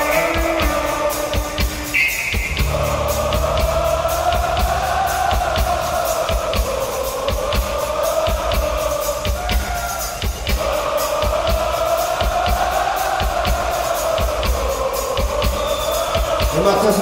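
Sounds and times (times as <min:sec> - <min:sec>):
rock music: 0:00.0 - 0:17.0
steady drum beat: 0:00.0 - 0:17.0.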